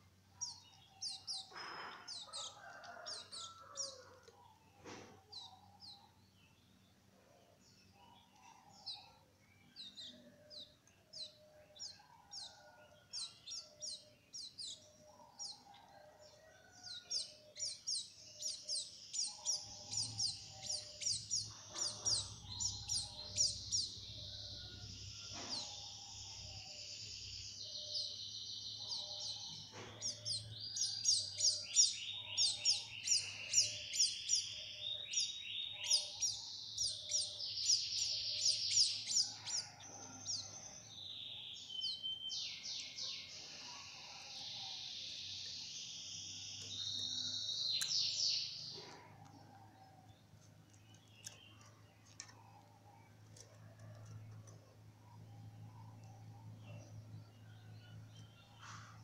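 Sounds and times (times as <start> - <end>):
canaries chirping and trilling: 0.0 - 59.0.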